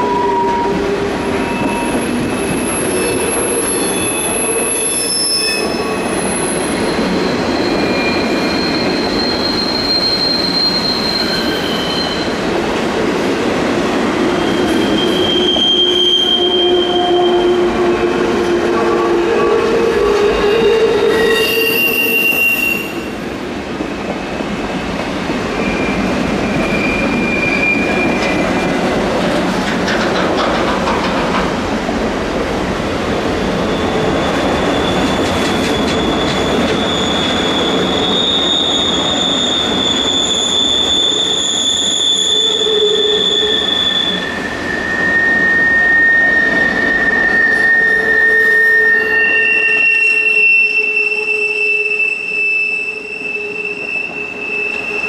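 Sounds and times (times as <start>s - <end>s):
wheel squeals: 0.0s - 12.4s, 14.3s - 18.1s, 20.0s - 23.2s, 25.6s - 28.8s, 33.6s - 55.0s
freight train wheels rumbling: 0.0s - 55.0s.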